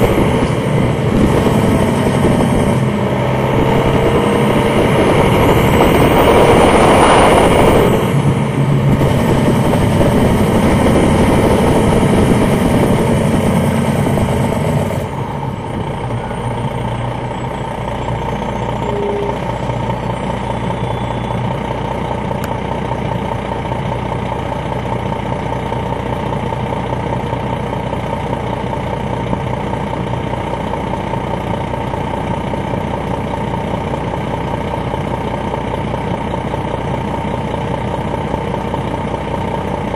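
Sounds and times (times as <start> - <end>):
diesel bus engine droning: 0.0 - 39.9.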